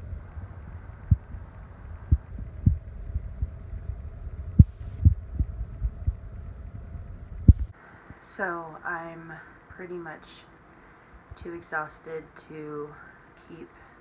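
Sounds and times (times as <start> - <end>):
faint constant tone: 0.0 - 14.0.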